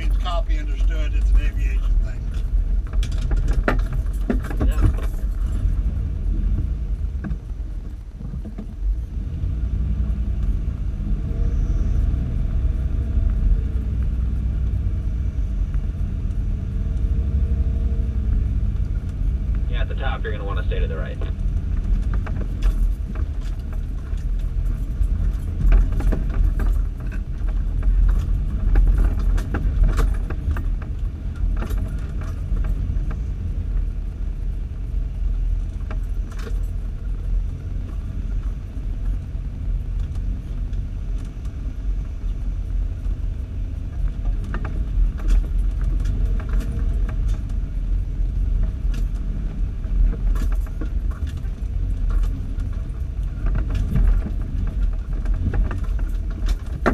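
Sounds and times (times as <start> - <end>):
engine and tyres rumbling: 0.0 - 56.9
vehicle clicks and rattles: 0.0 - 56.9.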